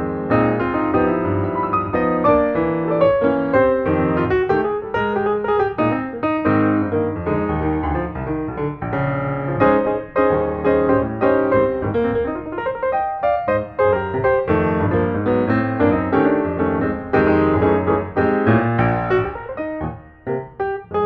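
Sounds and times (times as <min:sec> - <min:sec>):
background piano music: 0:00.0 - 0:21.0.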